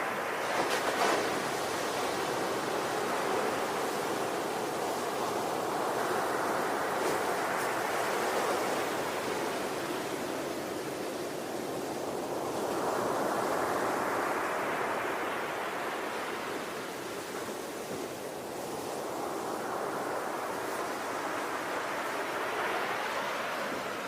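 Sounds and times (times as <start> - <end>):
ocean waves washing: 0.0 - 24.0.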